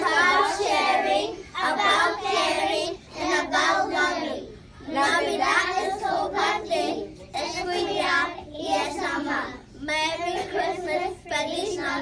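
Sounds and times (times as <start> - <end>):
young children singing: 0.0 - 12.0.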